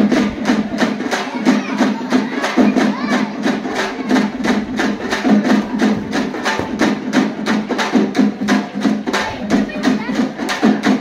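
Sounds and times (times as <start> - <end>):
rhythmic drumming: 0.0 - 11.0.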